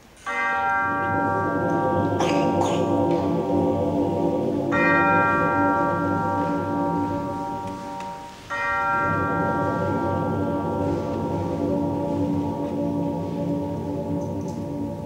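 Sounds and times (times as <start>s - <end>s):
choir singing sustained chords: 0.3s - 15.0s.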